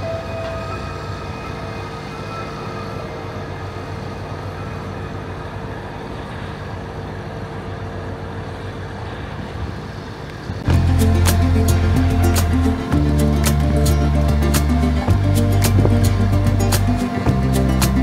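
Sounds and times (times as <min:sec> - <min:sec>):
heavy machinery engines droning: 0:00.0 - 0:18.0.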